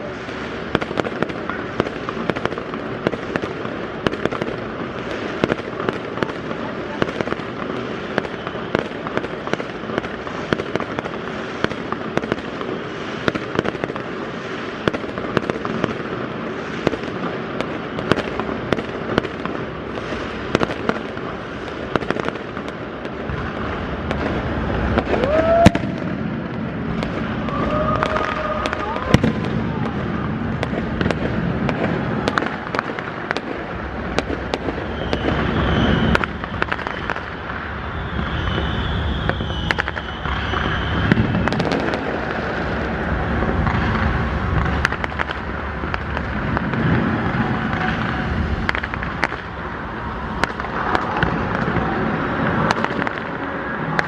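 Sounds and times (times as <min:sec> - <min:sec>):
fireworks crackling pops: 0:00.0 - 0:54.0
fireworks loud bangs: 0:00.0 - 0:54.0.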